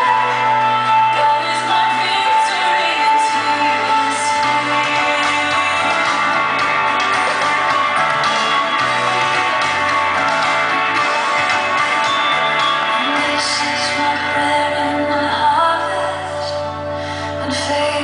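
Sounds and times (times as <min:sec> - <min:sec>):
song with singing and guitar: 0:00.0 - 0:18.0.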